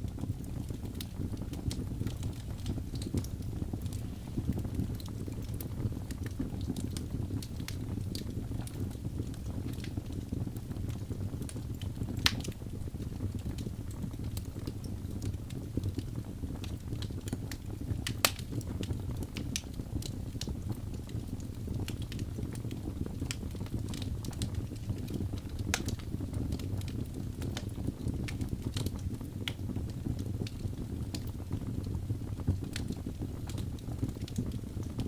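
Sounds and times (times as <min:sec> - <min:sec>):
fire flames rumbling: 0:00.0 - 0:35.0
logs crackling and popping: 0:00.0 - 0:35.0.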